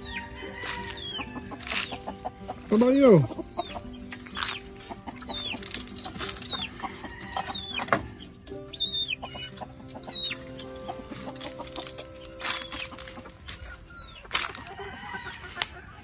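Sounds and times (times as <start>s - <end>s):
chickens peeping: 0.0s - 16.0s
faint background music: 0.0s - 16.0s.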